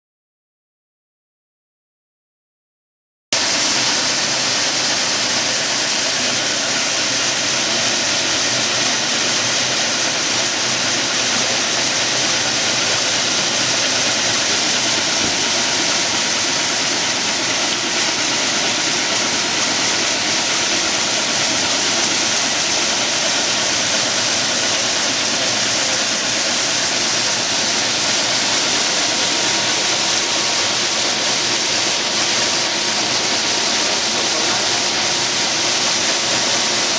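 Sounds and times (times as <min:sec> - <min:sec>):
washing machine motor and water: 0:03.4 - 0:36.9.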